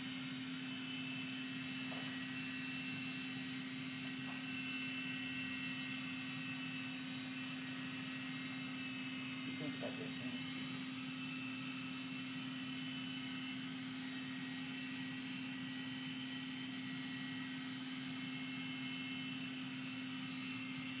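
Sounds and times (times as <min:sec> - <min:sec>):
toy helicopter rotors humming: 0:00.0 - 0:21.0.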